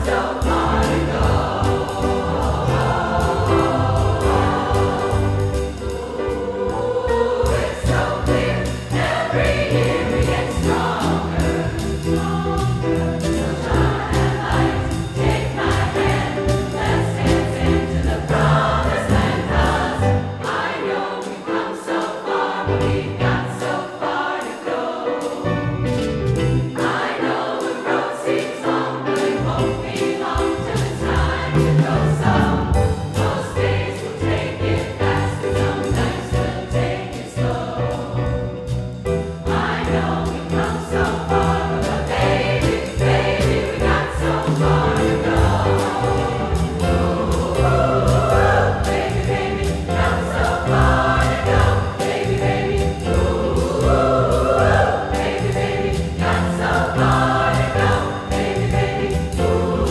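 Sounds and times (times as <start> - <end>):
drum kit: 0.0 - 20.8, 28.7 - 59.9
women's choir singing: 0.0 - 25.8, 26.6 - 38.4, 39.2 - 59.9
piano: 0.0 - 59.9.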